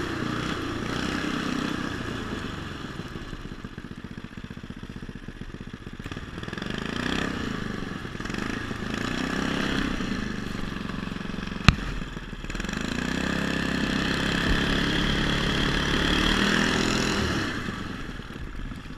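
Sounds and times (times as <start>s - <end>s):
engine revving under load: 0.0s - 3.6s, 6.0s - 18.9s.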